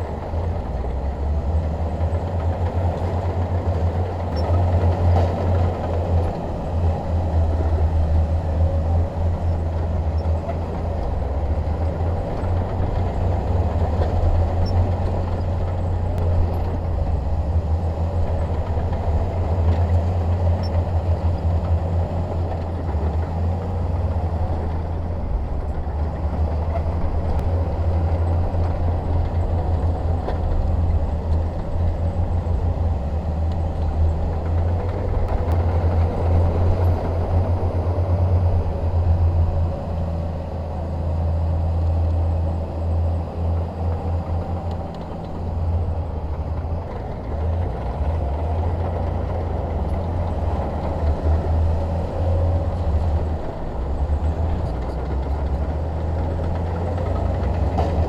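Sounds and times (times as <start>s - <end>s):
bulldozer diesel engine rumbling: 0.0s - 58.0s.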